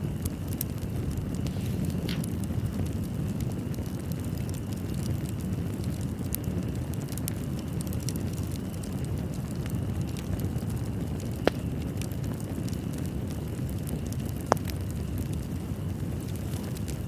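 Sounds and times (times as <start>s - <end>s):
burning wood crackling: 0.0s - 17.0s
fireplace fire rumbling: 0.0s - 17.0s.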